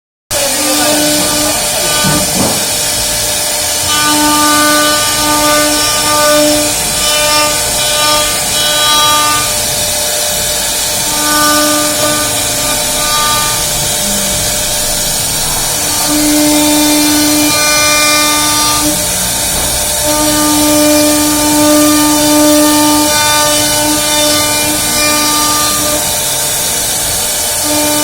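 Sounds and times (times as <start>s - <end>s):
stepper motors whining: 0.3s - 28.0s.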